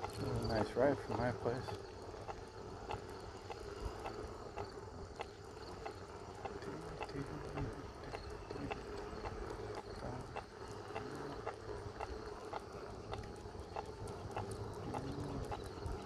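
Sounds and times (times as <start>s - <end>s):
dog paws clicking on ground: 0.0s - 16.0s
electric unicycle hum: 0.0s - 16.0s.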